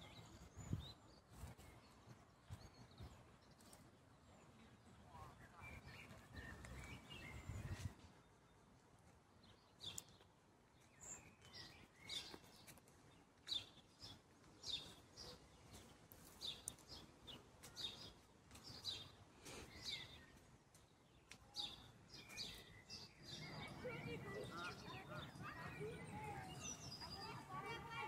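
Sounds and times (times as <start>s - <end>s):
bird chirping: 0.0s - 8.4s, 9.4s - 28.0s.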